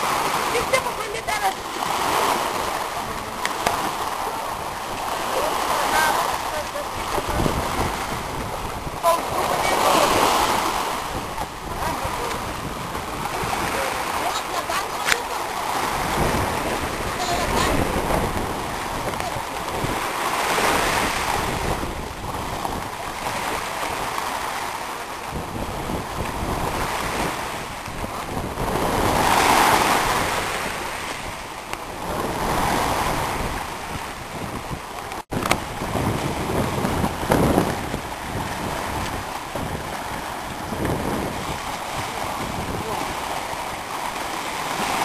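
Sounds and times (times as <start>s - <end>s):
sea waves washing onto beach: 0.0s - 45.0s
wind on microphone: 0.0s - 45.0s.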